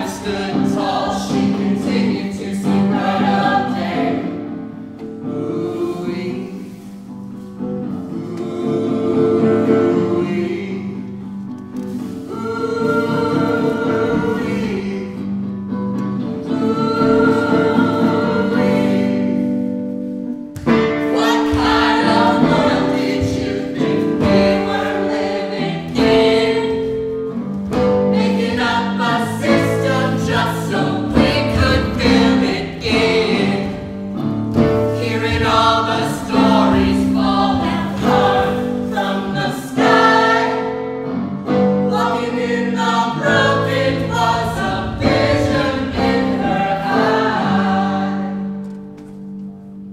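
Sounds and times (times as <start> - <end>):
music with group singing: 0.0 - 49.9.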